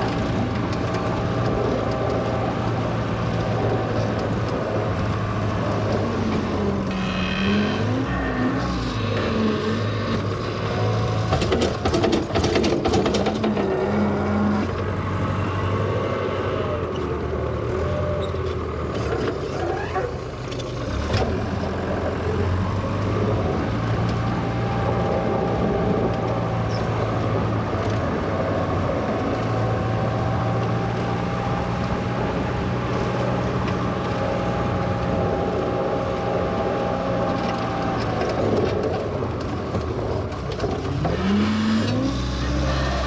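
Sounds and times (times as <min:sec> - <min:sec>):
loader engine running: 0:00.0 - 0:43.0.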